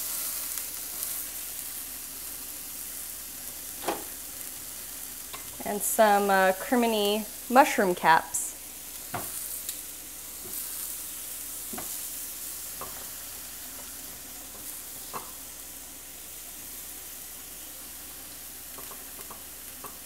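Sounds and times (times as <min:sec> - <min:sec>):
vegetables sizzling on a grill: 0:00.0 - 0:20.0.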